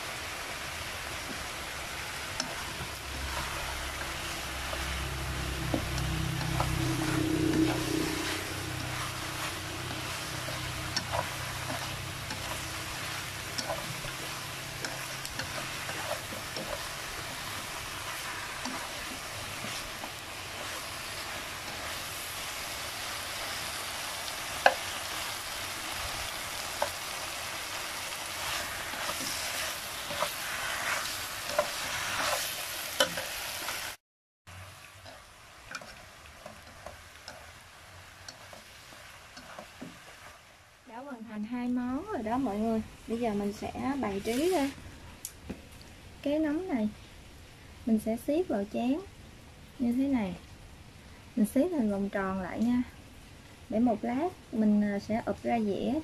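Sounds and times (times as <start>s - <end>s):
vegetables sizzling in a wok: 0.0s - 56.0s.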